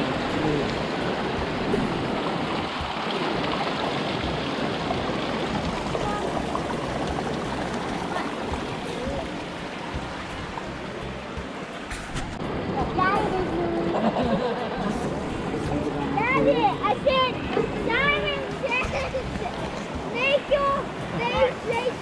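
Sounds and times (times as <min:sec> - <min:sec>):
water flowing among rocks: 0:00.0 - 0:22.0.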